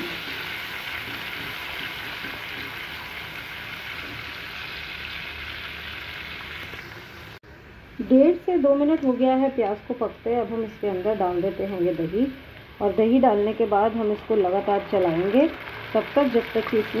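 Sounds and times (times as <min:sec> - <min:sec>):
food sizzling in hot oil: 0:00.0 - 0:07.4, 0:08.6 - 0:17.0.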